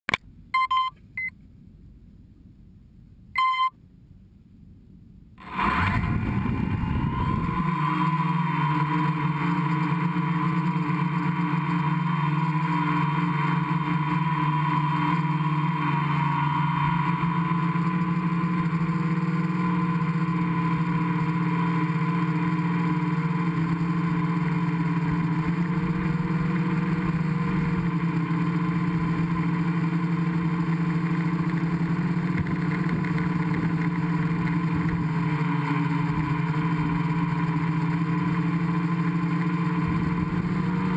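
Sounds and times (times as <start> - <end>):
drone motors and propellers humming: 5.4 - 40.9.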